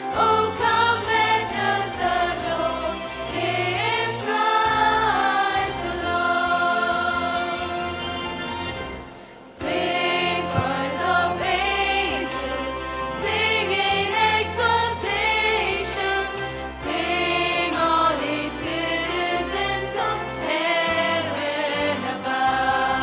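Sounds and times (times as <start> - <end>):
mixed choir singing a carol: 0.0 - 23.0.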